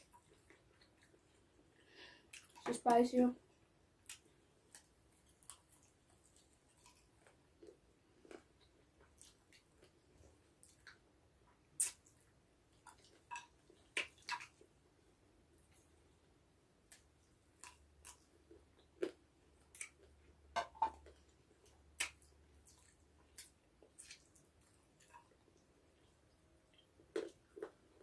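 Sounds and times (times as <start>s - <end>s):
people chewing and crunching: 0.0s - 2.7s, 4.0s - 11.1s, 11.8s - 14.7s, 16.9s - 28.0s.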